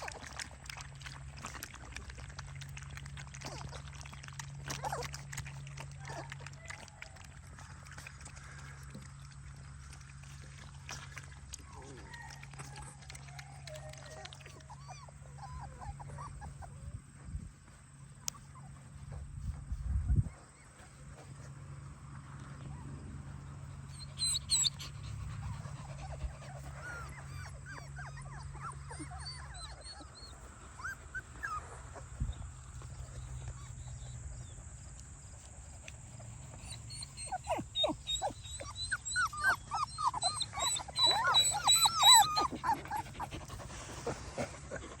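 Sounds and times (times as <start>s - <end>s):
puppies whimpering and yelping: 0.0s - 8.8s, 10.4s - 21.6s, 22.6s - 45.0s.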